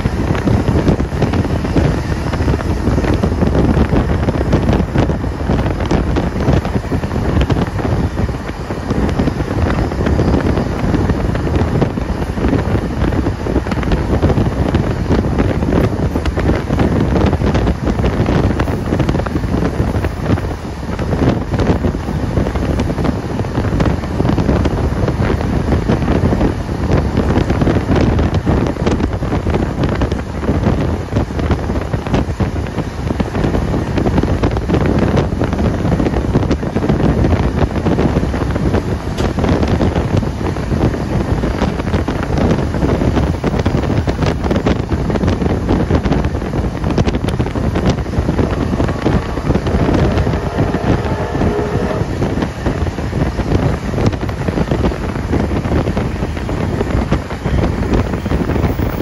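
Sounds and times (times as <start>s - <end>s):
train carriage rumble: 0.0s - 59.0s
wind rushing over microphone: 0.0s - 59.0s.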